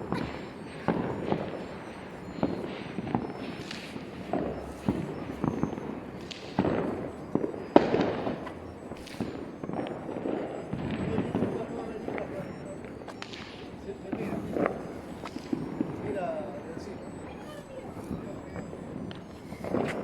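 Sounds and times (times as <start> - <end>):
distant fireworks bangs and pops: 0.0 - 20.0.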